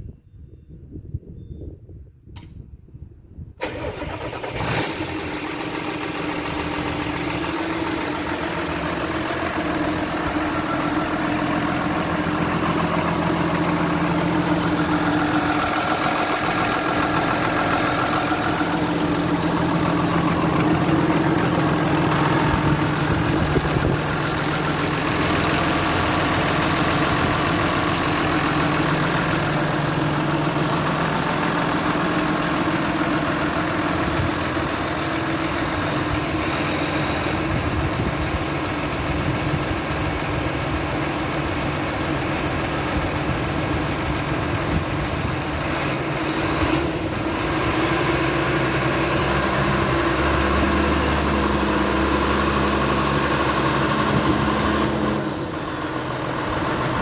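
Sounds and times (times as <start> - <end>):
tractor diesel engine idling: 3.6 - 57.0.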